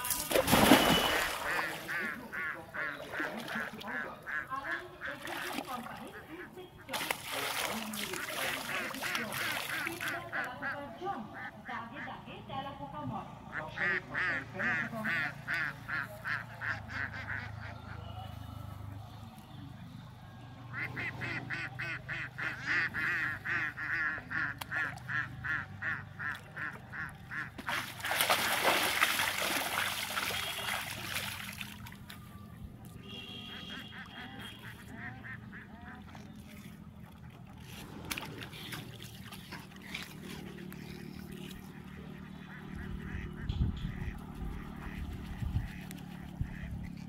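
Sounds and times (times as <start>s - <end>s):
waterfowl harsh calls: 0.7s - 11.5s, 13.5s - 18.1s, 20.7s - 31.8s, 33.0s - 36.7s, 37.6s - 47.0s.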